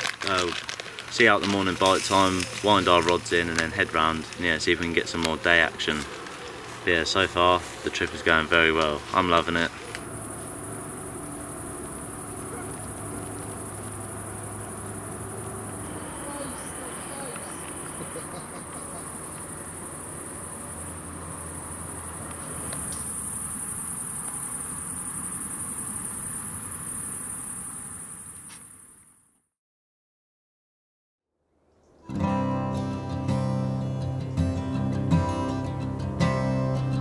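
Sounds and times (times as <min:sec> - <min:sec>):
crickets chirring: 0:00.0 - 0:29.4, 0:33.0 - 0:37.0.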